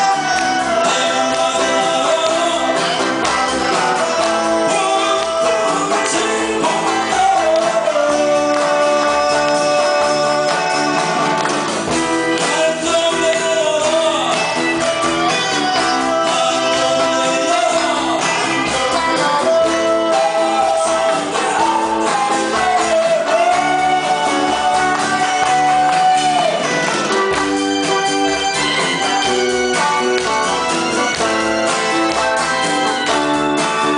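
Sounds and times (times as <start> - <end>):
drums: 0.0 - 33.9
live pop-rock band playing: 0.0 - 33.9
strummed guitars: 0.0 - 33.9.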